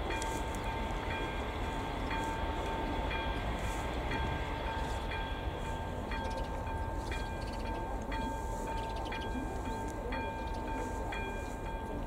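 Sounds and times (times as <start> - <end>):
level crossing warning bell ringing: 0.0 - 12.0.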